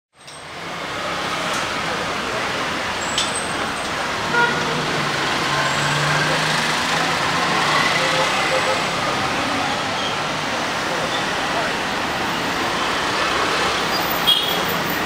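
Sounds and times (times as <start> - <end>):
road traffic din: 0.2 - 15.0.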